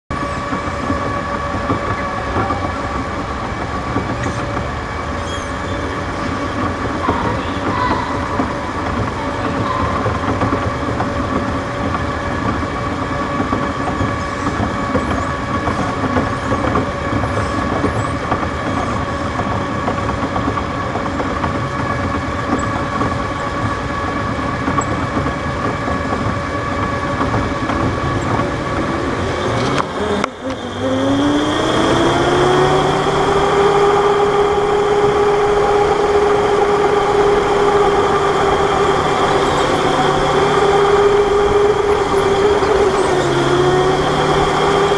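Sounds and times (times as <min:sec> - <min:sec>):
electric go-kart motor whine: 0:00.1 - 0:44.9.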